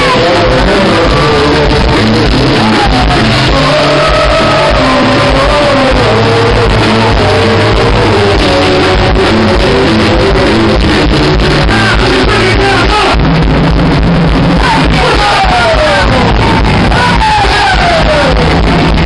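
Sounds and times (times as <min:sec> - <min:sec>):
person singing: 0:00.0 - 0:13.2, 0:14.5 - 0:19.0
live band music: 0:00.0 - 0:19.0.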